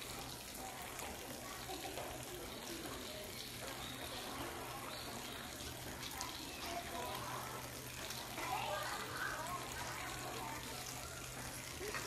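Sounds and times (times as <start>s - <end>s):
distant people talking: 0.0s - 12.0s
rushing hiss of background noise: 0.0s - 12.0s.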